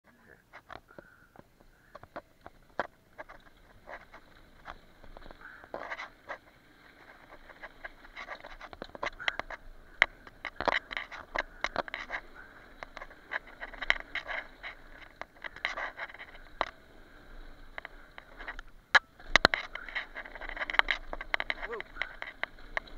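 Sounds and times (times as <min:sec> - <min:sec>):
bike rattling: 0:00.4 - 0:22.9
bike tyres clicking over ground: 0:00.4 - 0:22.9.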